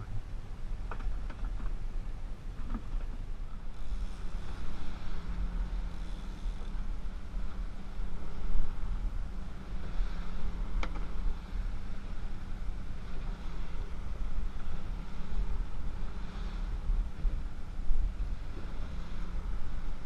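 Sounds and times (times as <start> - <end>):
outboard motors humming: 0.0 - 20.0
wind buffeting microphone: 0.0 - 20.0
water rushing past hull: 1.6 - 20.0.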